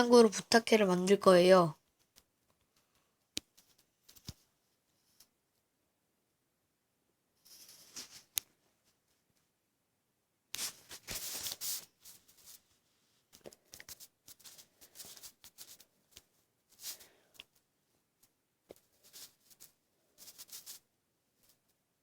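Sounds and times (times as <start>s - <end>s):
rustling of craft materials: 1.8s - 5.8s, 7.3s - 9.6s, 10.5s - 22.0s.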